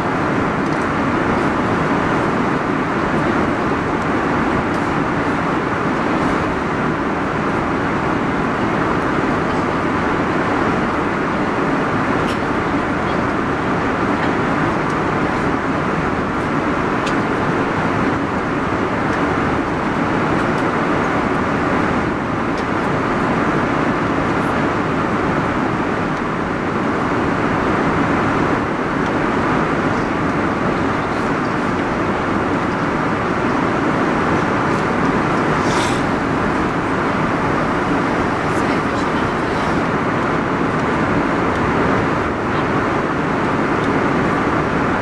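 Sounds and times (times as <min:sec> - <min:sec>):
airliner cabin engine rush: 0:00.0 - 0:45.0.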